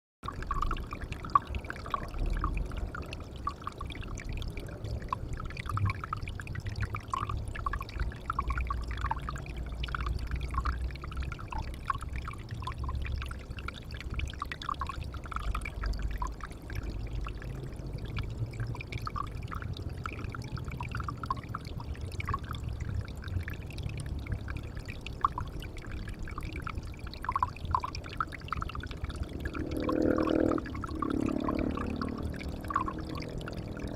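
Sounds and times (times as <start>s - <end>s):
water drips and plops: 0.2s - 33.9s
water pouring into a pond: 0.2s - 33.9s.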